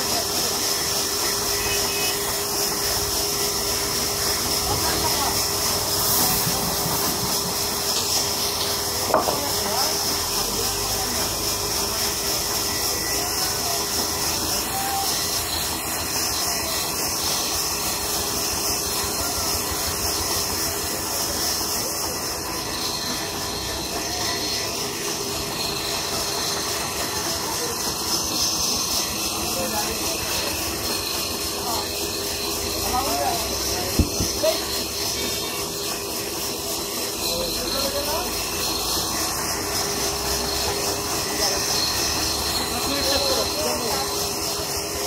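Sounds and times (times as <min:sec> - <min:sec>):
band saw blade hissing: 0:00.0 - 0:45.0.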